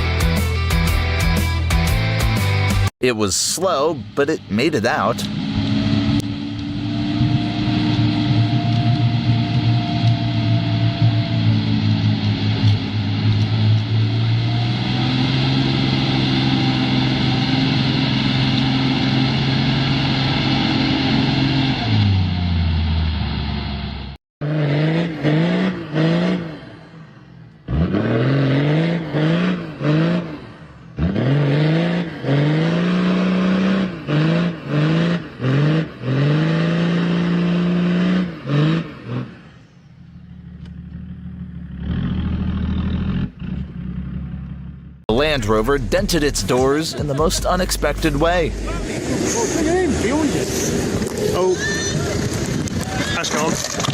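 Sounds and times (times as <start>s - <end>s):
engine running under load: 3.2s - 53.9s.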